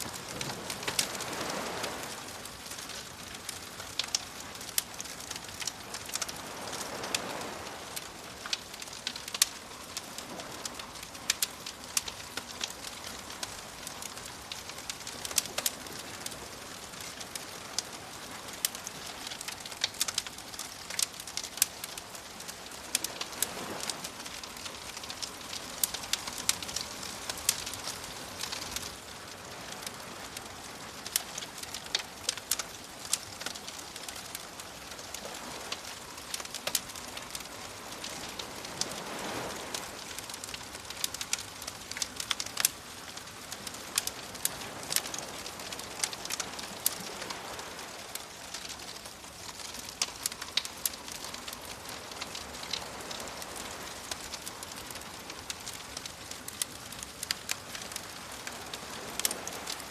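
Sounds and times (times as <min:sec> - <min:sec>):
soft waves washing in: 0:00.0 - 0:59.9
wood fire crackling and popping: 0:00.0 - 0:59.9.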